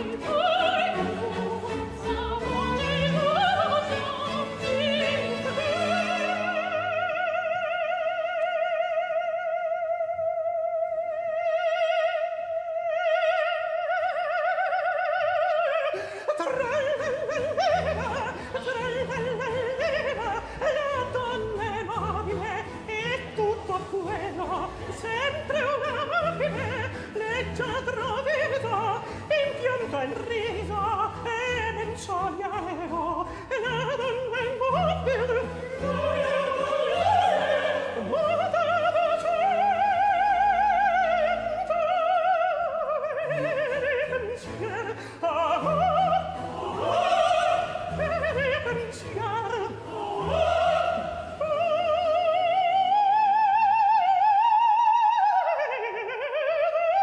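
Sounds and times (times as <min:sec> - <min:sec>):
orchestra playing: 0:00.0 - 0:08.1, 0:16.3 - 0:54.5
countertenor singing opera aria: 0:00.0 - 0:57.0.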